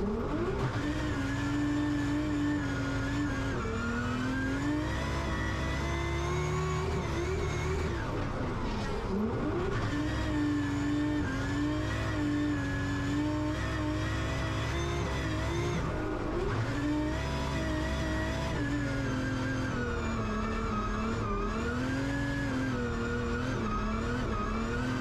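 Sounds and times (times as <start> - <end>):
car engine at high revs: 0.0 - 25.0.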